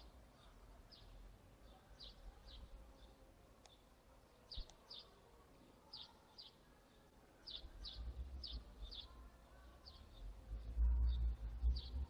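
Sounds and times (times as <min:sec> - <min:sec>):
small bird chirping: 0:00.0 - 0:05.2, 0:05.8 - 0:12.0.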